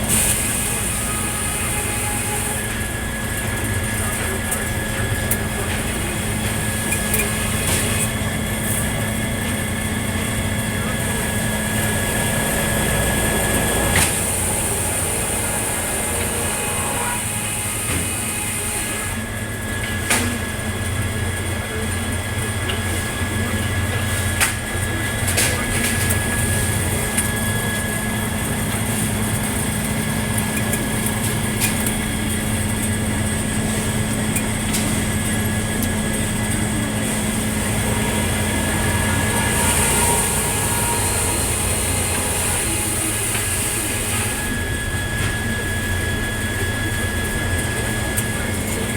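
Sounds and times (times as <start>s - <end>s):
circular sawmill whining: 0.0s - 48.9s.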